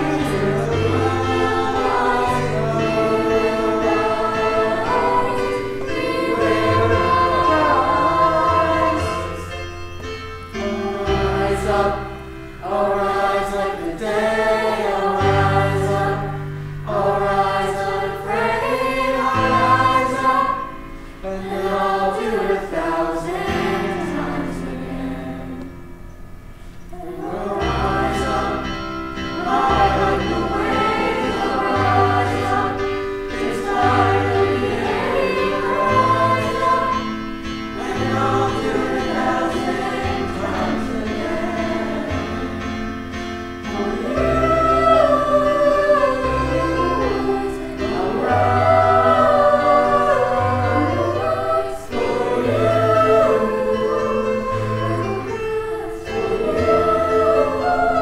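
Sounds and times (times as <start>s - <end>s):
mixed chorus singing: 0.0s - 26.0s, 26.9s - 58.0s.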